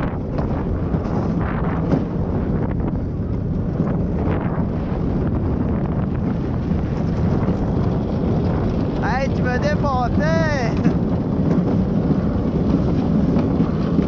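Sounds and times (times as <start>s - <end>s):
cart rolling rumble: 0.0s - 14.0s
wind buffeting microphone: 0.0s - 14.0s.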